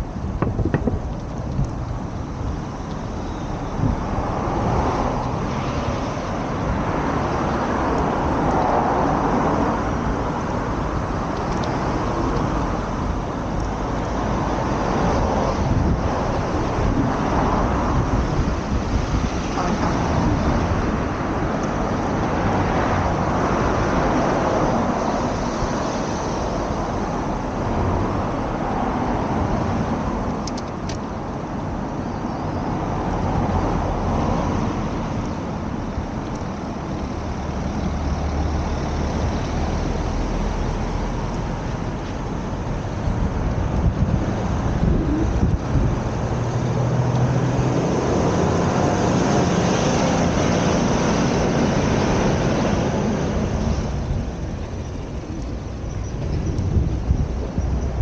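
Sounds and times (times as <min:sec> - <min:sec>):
cars passing: 0:00.0 - 0:58.0
traffic noise wash: 0:00.0 - 0:58.0.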